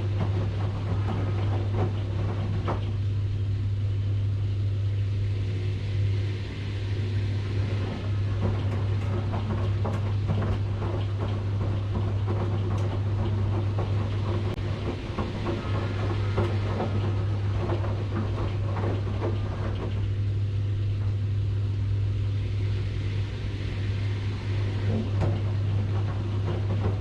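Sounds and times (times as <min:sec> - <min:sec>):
washing machine hum: 0:00.0 - 0:27.0.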